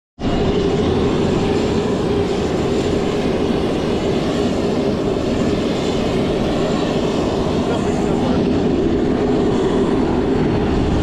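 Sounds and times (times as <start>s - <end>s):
jet turbine engine roar: 0.2s - 11.0s.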